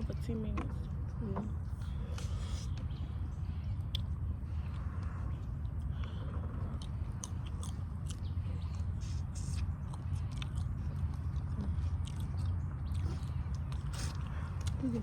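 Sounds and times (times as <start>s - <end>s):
biting and chewing: 0.0s - 15.0s
low rumble: 0.0s - 15.0s.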